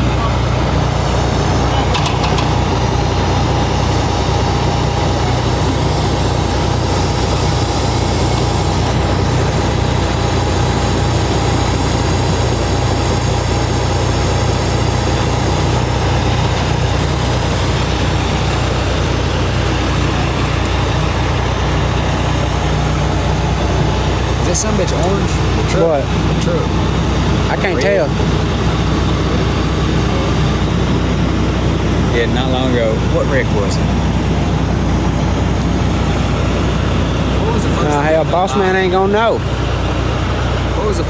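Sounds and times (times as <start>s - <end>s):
diesel engine droning: 0.0s - 41.0s
faint steady whine: 0.0s - 41.0s.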